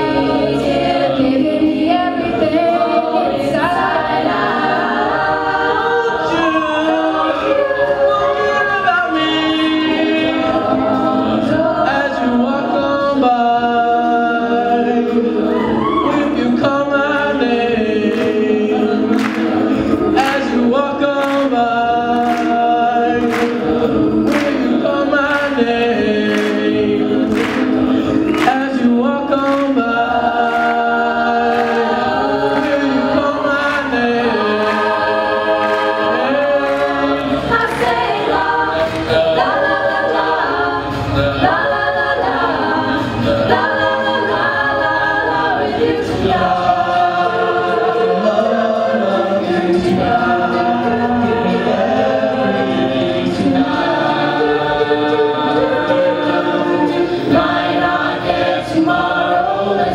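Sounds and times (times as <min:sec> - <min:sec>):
a cappella group singing: 0:00.0 - 0:59.9.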